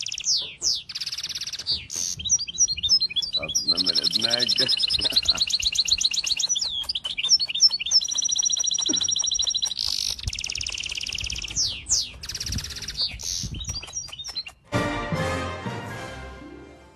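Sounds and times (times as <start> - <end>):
goldfinch singing: 0.0 - 14.7.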